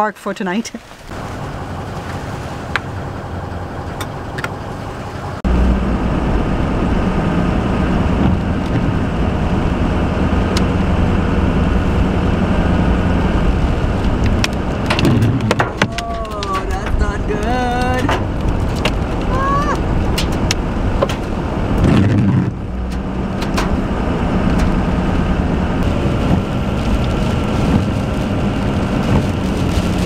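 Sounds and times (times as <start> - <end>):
van engine and road noise: 0.0 - 30.0
low engine hum: 0.5 - 30.0.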